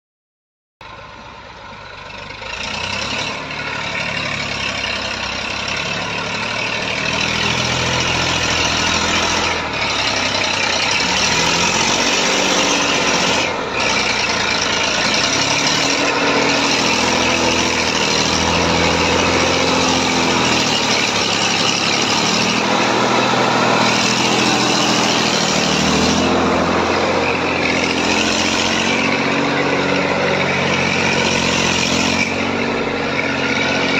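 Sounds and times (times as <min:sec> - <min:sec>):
tractor engine under load: 0:00.8 - 0:33.9.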